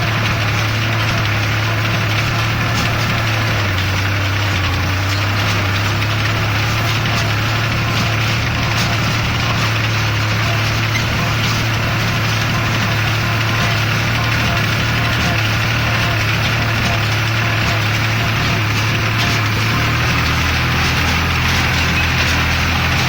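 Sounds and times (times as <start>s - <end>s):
baler clattering: 0.0s - 23.0s
tractor engine humming: 0.0s - 23.0s.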